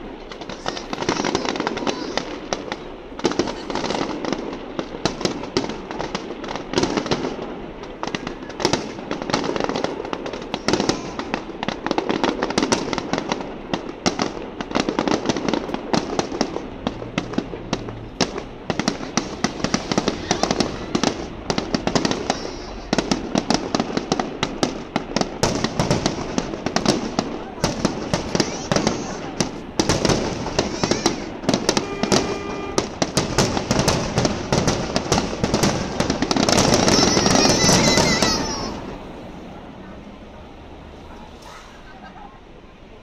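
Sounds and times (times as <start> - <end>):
fireworks popping and banging: 0.0 - 42.6
fireworks crackle: 0.0 - 43.0.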